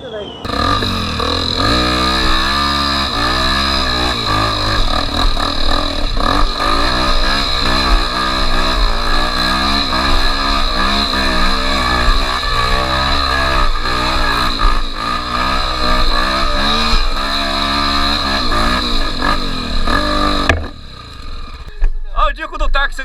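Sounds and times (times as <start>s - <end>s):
motorcycle engine revving hard: 0.4s - 21.7s.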